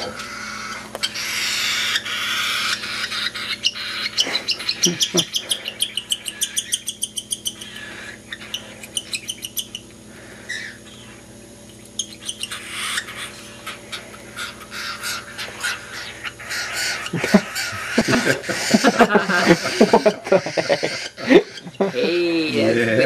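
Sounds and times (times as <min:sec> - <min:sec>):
baby birds begging calls: 0:00.0 - 0:22.7.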